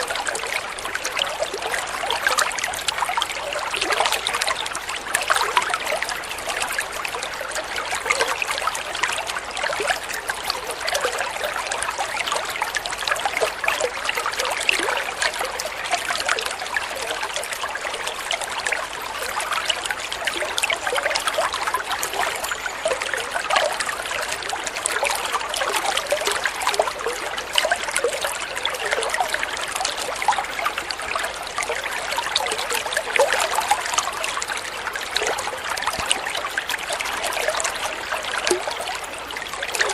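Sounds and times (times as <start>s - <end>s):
shallow water trickling: 0.0s - 39.9s.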